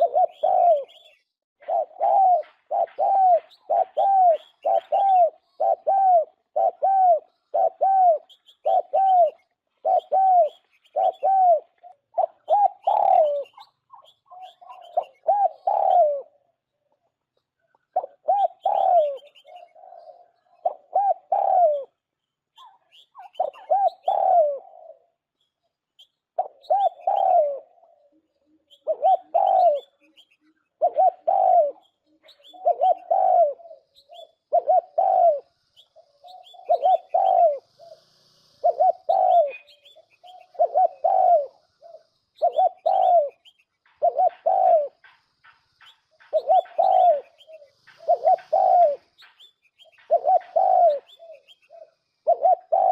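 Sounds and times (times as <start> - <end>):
dove cooing: 0.0 - 16.6, 17.6 - 25.3, 26.3 - 52.9
small birds chirping: 0.0 - 52.9.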